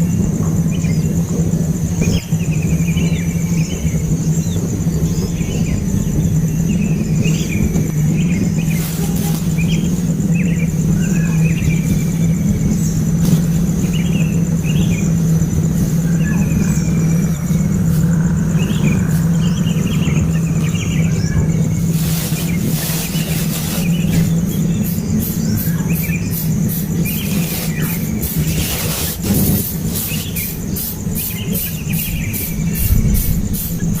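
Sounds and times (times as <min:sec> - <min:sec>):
loud steady low hum: 0:00.0 - 0:34.0
baby birds chirping: 0:01.9 - 0:34.0.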